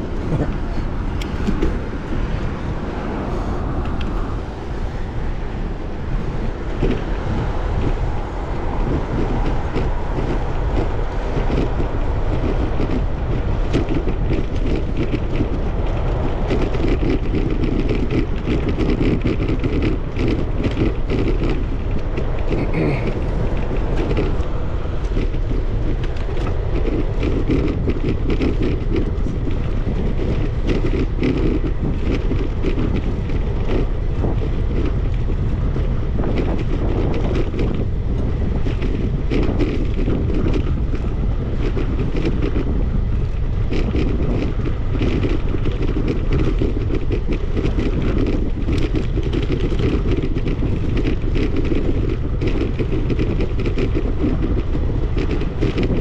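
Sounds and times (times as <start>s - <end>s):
small rattles and ticks: 0.0s - 5.1s, 6.0s - 56.0s
bicycle tyre and road noise: 0.0s - 56.0s
wind buffeting microphone: 0.0s - 56.0s.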